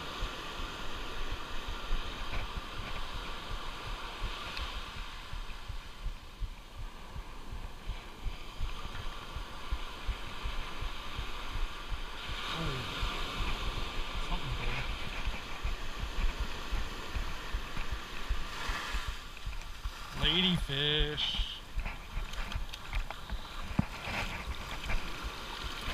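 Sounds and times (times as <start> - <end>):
surf hissing: 0.0 - 22.2
wind buffeting microphone: 0.0 - 25.9.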